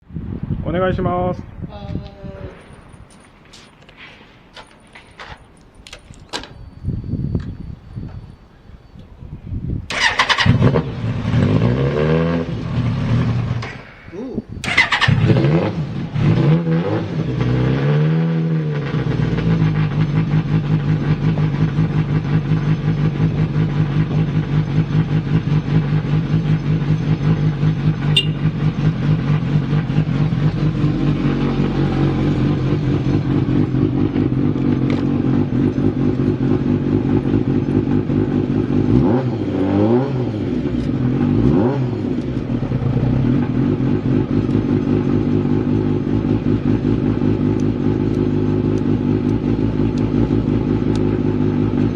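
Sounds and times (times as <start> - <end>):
motorcycle engine idling and revving: 9.8 - 51.9.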